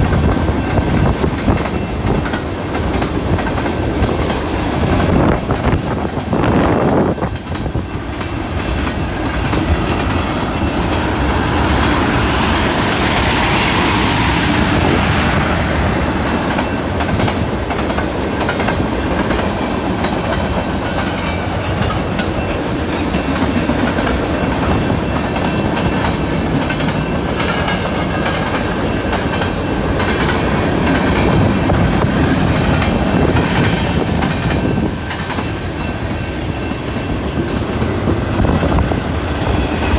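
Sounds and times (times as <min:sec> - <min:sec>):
train wheels clicking over rail joints: 0:00.1 - 0:39.9.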